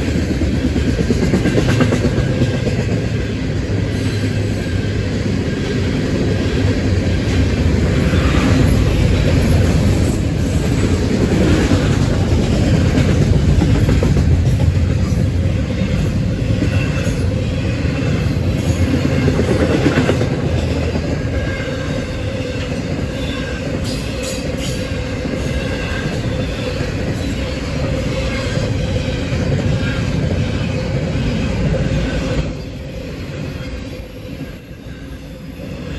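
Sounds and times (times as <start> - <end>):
freight train wheels clattering: 0.0 - 34.8.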